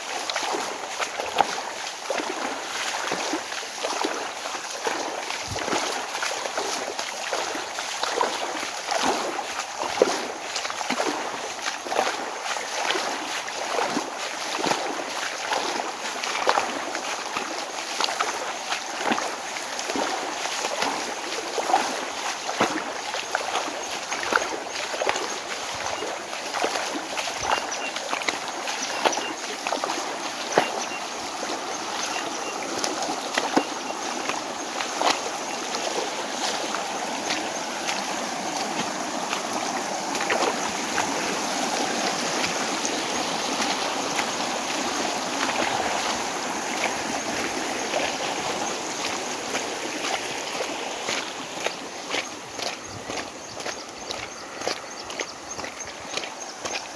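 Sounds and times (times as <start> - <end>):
runoff water rushing: 0.0 - 56.9
water splashes and clicks: 0.0 - 56.9.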